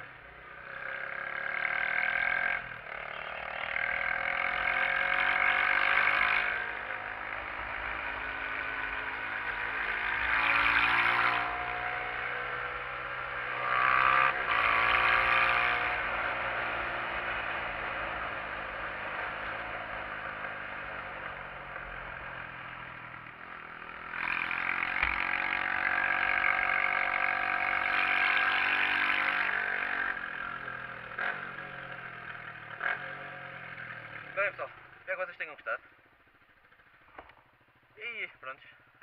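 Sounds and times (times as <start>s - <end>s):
motorcycle engine while riding: 0.0s - 39.0s.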